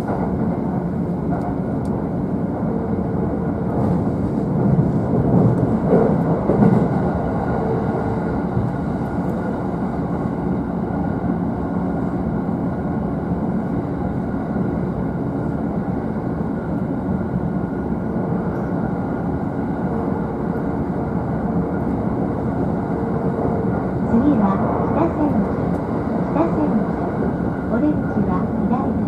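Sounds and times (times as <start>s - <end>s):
train wheels running on rails: 0.0s - 29.0s.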